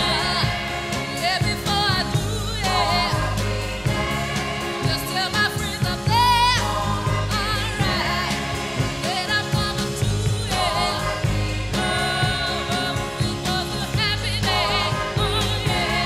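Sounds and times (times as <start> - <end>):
low bass notes: 0.0 - 16.0.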